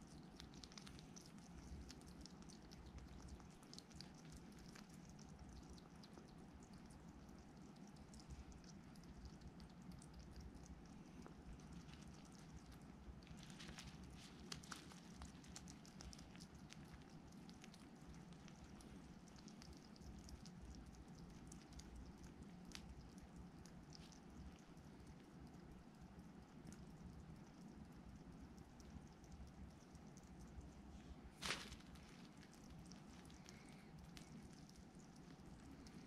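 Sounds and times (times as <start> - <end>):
hedgehog eating clicks: 0.0 - 36.0
low steady hum: 0.0 - 36.0.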